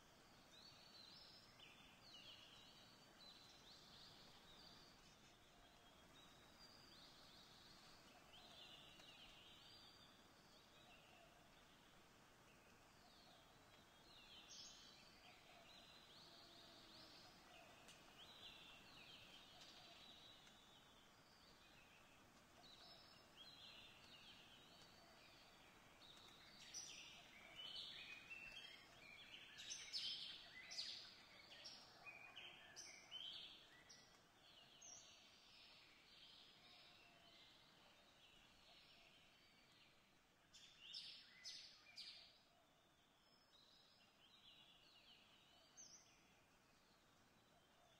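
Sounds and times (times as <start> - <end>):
faint birdsong chirps: 0.0 - 47.9.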